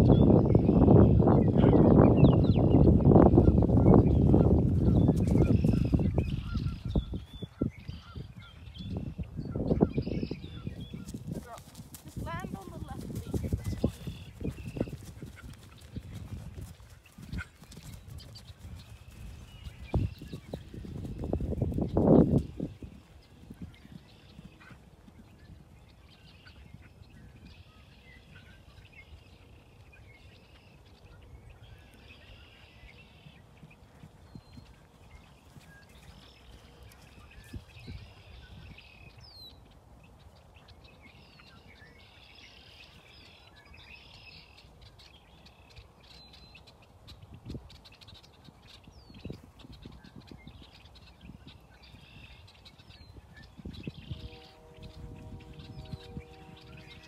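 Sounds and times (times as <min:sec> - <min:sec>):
faint birdsong: 0:00.0 - 0:57.0
wind rumble on microphone: 0:00.0 - 0:57.0.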